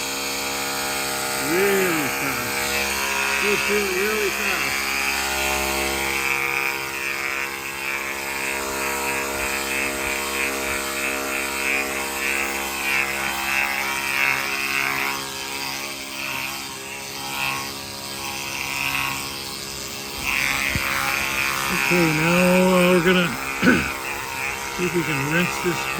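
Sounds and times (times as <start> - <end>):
pressure washer pump motor humming: 0.0 - 25.9.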